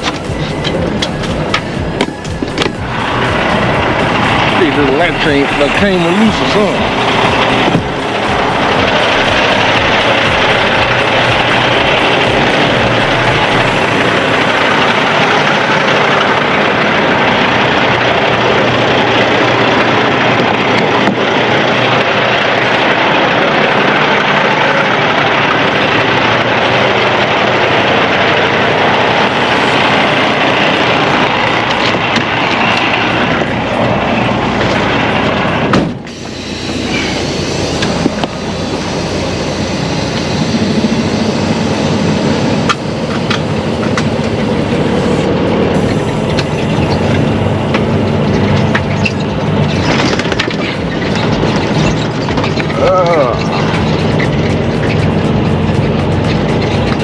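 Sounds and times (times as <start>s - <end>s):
truck road and engine noise: 0.0s - 57.0s.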